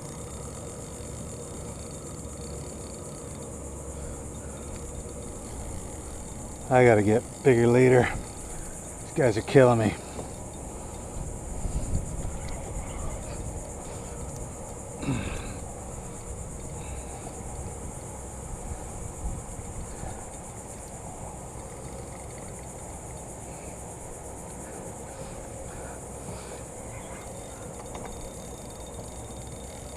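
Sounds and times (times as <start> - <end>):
insect chorus: 0.0 - 29.9.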